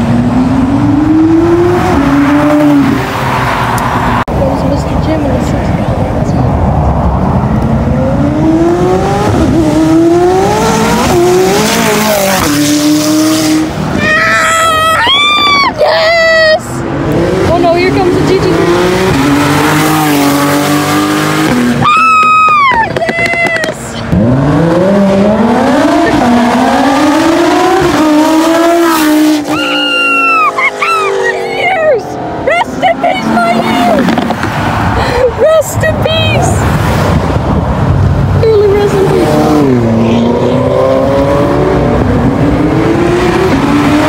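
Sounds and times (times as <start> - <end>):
sports car accelerating hard: 0.0 - 14.0, 16.8 - 21.8, 24.0 - 35.3, 36.6 - 44.0.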